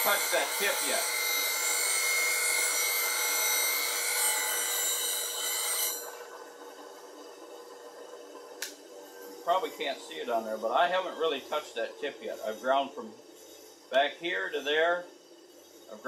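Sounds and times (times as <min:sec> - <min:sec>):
bench grinder humming: 0:00.0 - 0:08.0, 0:08.9 - 0:16.0
steel grinding on grinder wheel: 0:00.0 - 0:16.0.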